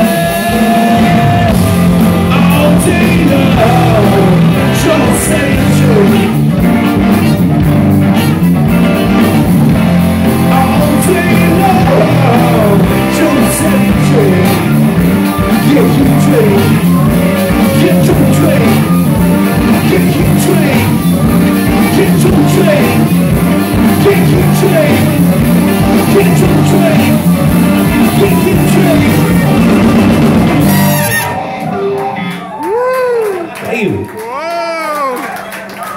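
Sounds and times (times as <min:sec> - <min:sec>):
live rock band with horns: 0:00.0 - 0:33.4.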